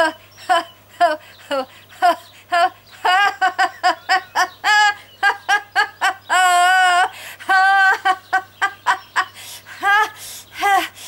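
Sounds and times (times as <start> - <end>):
woman laughing: 0.0 - 11.0.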